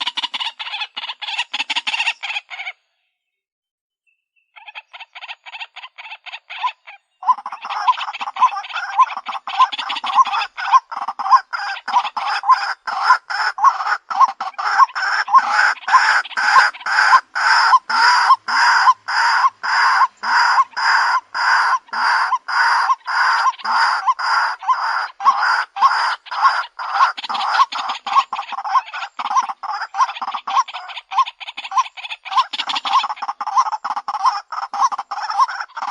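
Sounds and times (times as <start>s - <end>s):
waterhen calling: 0.0s - 2.9s, 4.5s - 35.9s.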